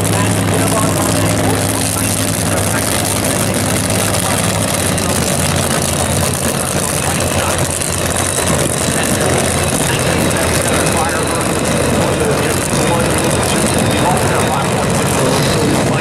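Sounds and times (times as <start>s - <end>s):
race car engines running: 0.0s - 16.0s.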